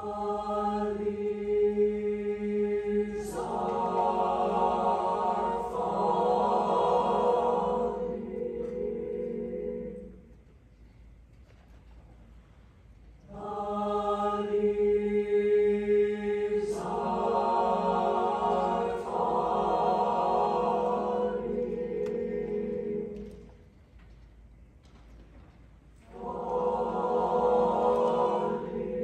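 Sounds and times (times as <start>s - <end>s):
choir singing sustained chords: 0.0s - 10.8s, 13.2s - 23.8s, 26.0s - 29.0s.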